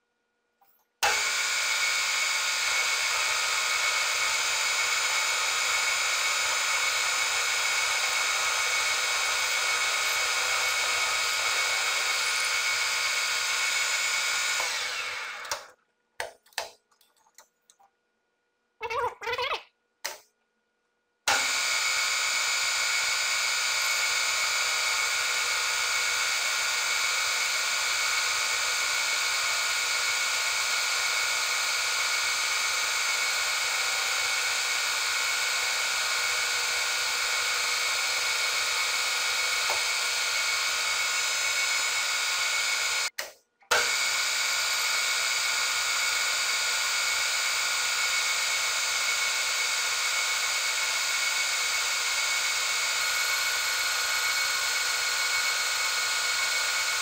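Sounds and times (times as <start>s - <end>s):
metal lathe whine: 1.0s - 15.7s, 21.3s - 43.1s, 43.7s - 57.0s.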